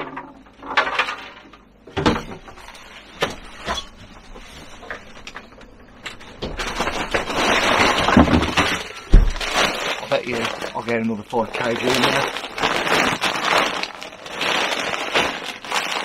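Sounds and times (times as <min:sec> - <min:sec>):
rustling rummaging: 0:02.2 - 0:16.0.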